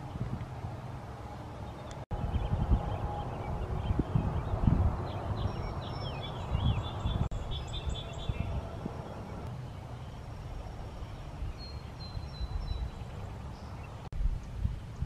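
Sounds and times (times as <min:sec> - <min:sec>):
low steady rumble: 0:00.0 - 0:15.0
songbirds chirping: 0:00.0 - 0:15.0.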